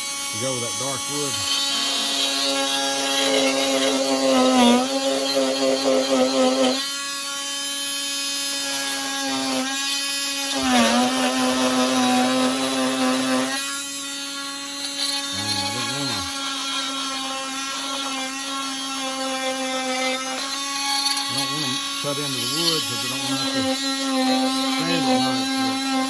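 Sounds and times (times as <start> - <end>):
power tool motor on wood: 0.0 - 26.0.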